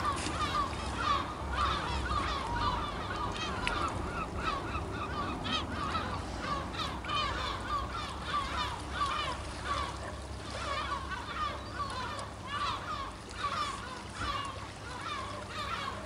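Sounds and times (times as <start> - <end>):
low steady rumble: 0.0 - 14.0
gulls calling: 0.0 - 16.0.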